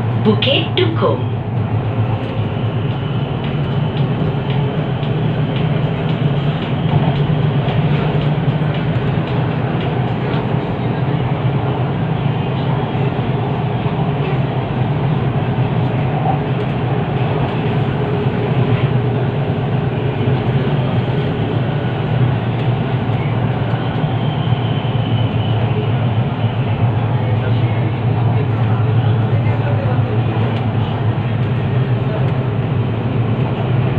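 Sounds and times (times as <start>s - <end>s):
train carriage rumble: 0.0s - 33.9s.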